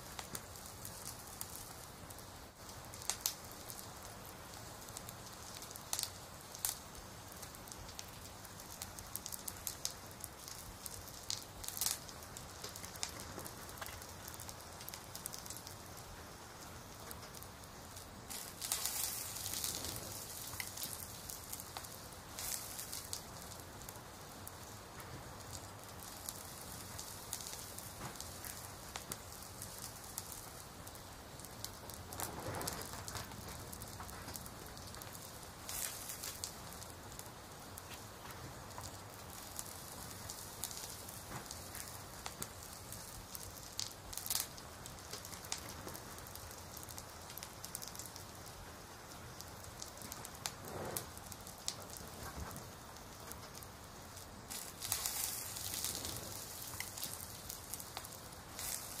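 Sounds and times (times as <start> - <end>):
hissing with crackles and ticks: 0.0 - 59.0.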